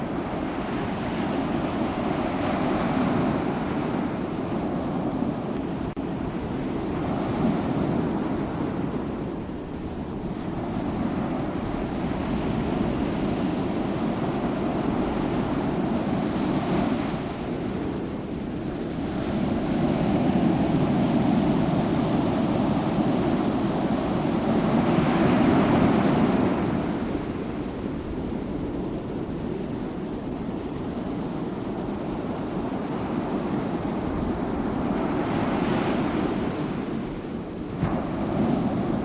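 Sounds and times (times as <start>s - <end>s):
sea waves breaking: 0.0s - 39.0s.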